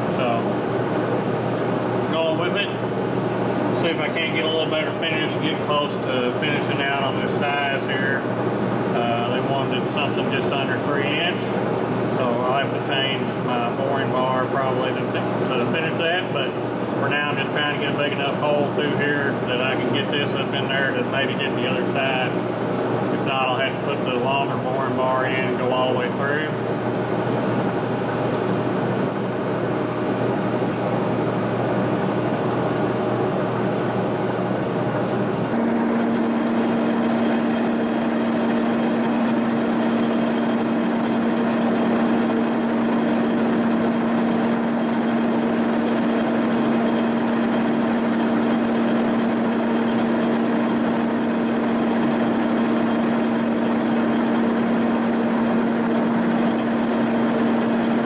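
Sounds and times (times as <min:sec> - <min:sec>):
boring bar chattering hum: 0:00.0 - 0:58.0
mill spindle turning: 0:00.0 - 0:58.0.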